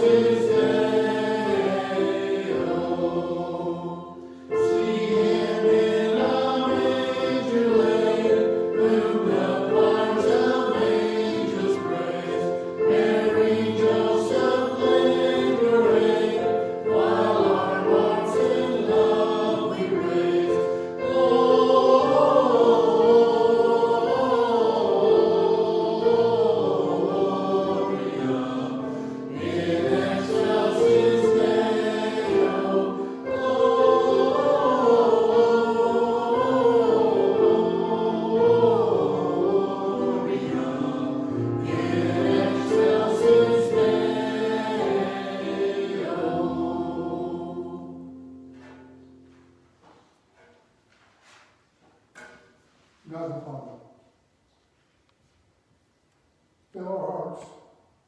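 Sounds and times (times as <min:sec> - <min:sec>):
choir singing a hymn: 0:00.0 - 0:49.6.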